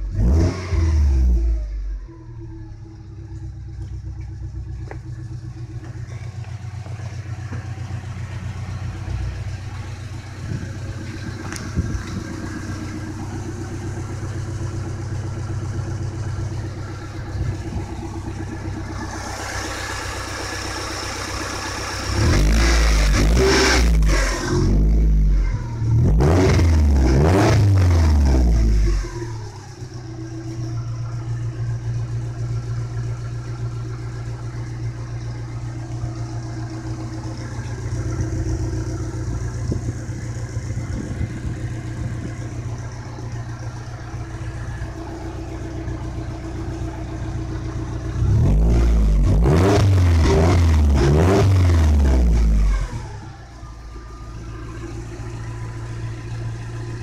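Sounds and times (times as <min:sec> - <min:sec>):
van engine revving and idling: 0:00.0 - 0:57.0.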